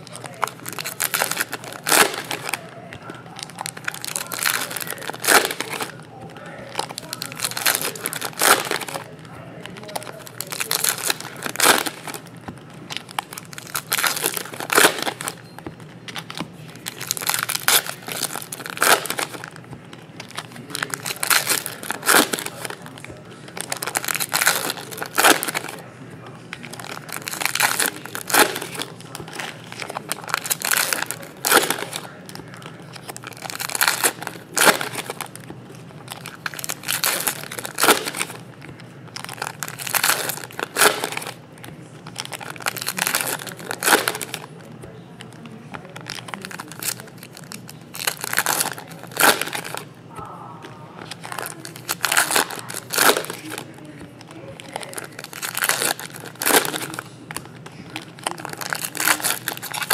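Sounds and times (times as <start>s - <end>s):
foil packs tearing and crinkling: 0.0s - 12.3s, 12.9s - 15.4s, 16.1s - 25.9s, 26.5s - 41.4s, 42.0s - 49.9s, 51.0s - 59.9s.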